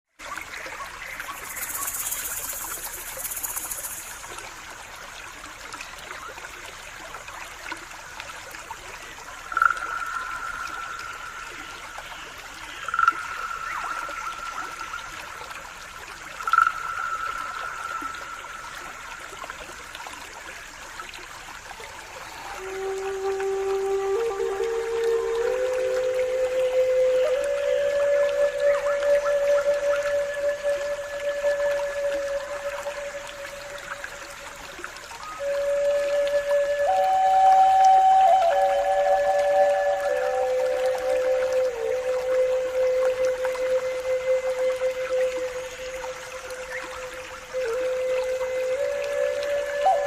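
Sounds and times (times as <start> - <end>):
stream water trickling: 0.1 - 50.0.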